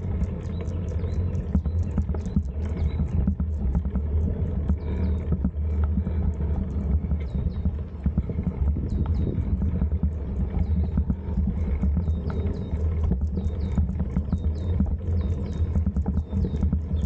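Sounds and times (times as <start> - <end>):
bike tyres rolling on asphalt: 0.0 - 17.0
wind rumbling on microphone: 0.0 - 17.0.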